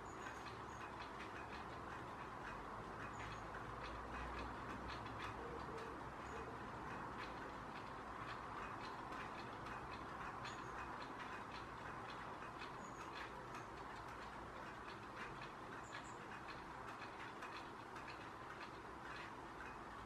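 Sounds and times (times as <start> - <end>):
bird ticks and clicks: 0.0 - 20.0.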